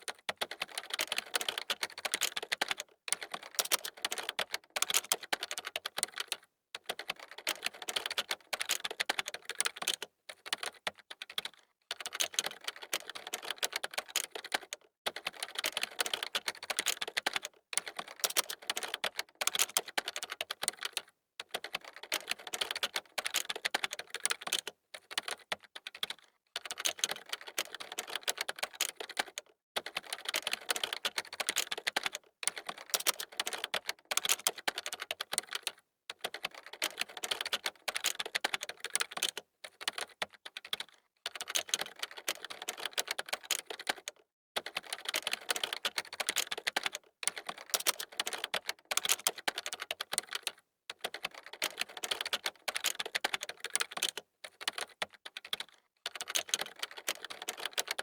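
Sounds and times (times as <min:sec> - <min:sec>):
computer keyboard typing: 0:00.0 - 0:58.0.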